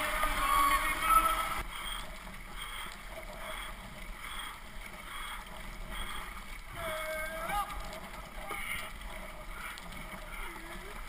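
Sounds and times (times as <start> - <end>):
paddles dipping into water: 0.0 - 11.0
water washing along hull: 0.0 - 11.0.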